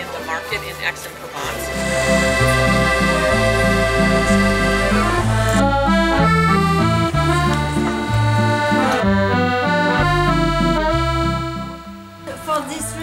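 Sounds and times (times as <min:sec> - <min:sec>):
accordion music: 0:00.0 - 0:13.0.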